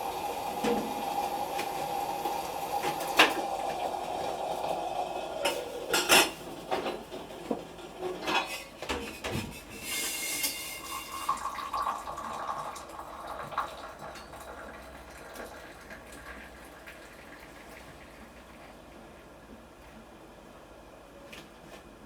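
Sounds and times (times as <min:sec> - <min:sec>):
running water in a kitchen: 0:00.0 - 0:19.9.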